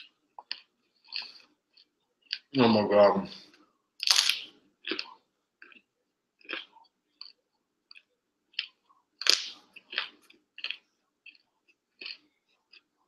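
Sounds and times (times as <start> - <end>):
crunchy chewing of broccoli: 0.0 - 2.5, 4.0 - 13.0.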